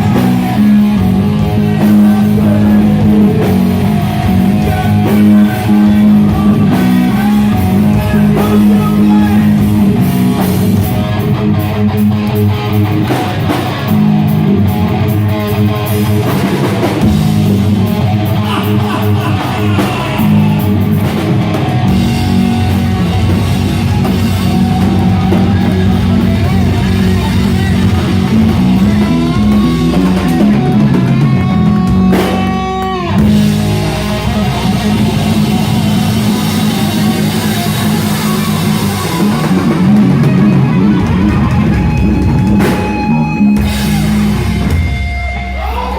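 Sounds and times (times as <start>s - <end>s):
drum kit: 0.0s - 45.9s
electric guitar: 0.0s - 45.9s.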